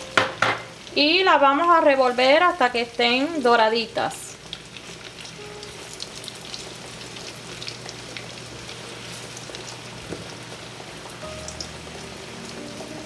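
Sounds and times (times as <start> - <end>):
onion sizzling in butter: 0.0 - 13.0.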